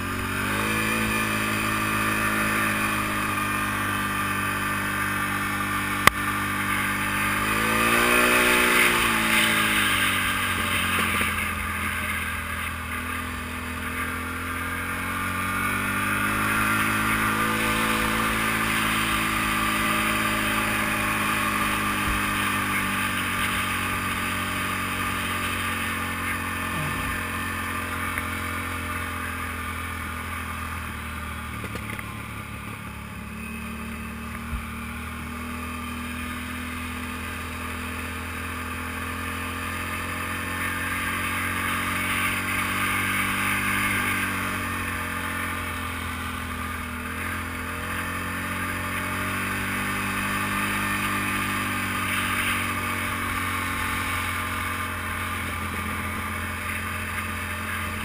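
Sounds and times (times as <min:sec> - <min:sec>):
atv engine running: 0:00.0 - 0:58.0
tires on gravel: 0:00.0 - 0:58.0.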